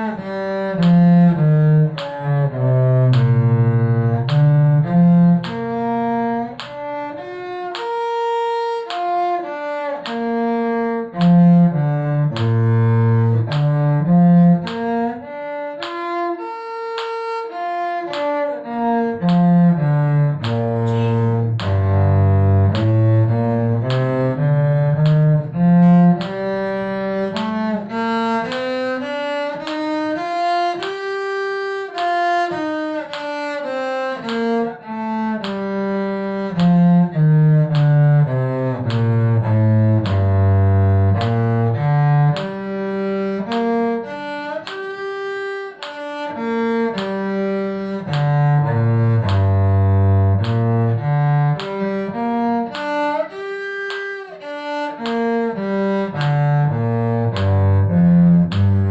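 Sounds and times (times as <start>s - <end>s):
cello bowing a scale: 0.0s - 58.9s.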